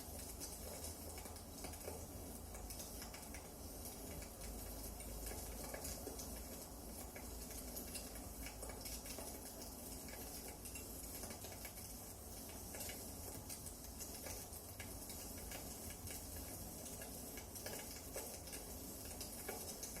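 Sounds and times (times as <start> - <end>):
faint steady hiss: 0.0 - 20.0
wood fire crackling: 0.0 - 20.0.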